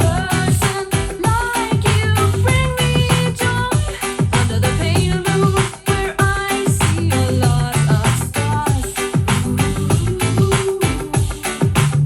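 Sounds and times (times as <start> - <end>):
dance pop song over speakers: 0.0 - 12.0.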